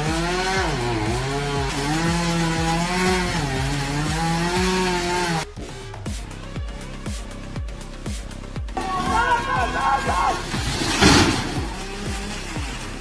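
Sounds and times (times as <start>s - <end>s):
chainsaw cutting wood: 0.0s - 13.0s
faint background music: 0.0s - 13.0s.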